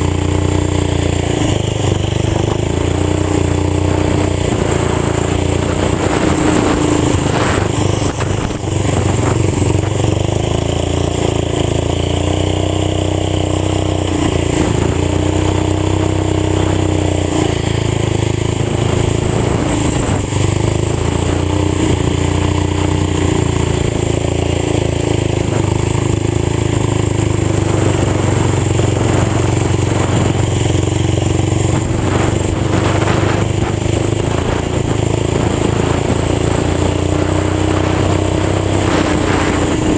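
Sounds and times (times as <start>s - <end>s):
old tractor engine running: 0.0s - 39.9s.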